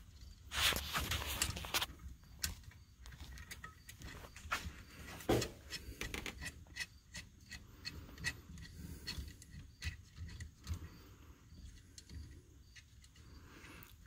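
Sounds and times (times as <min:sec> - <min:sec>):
small parts and tools clicking: 0:00.0 - 0:14.0.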